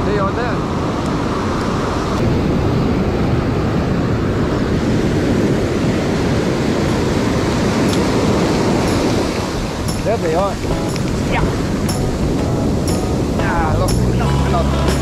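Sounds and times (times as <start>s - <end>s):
ocean surf on a sandy beach: 0.0s - 15.0s.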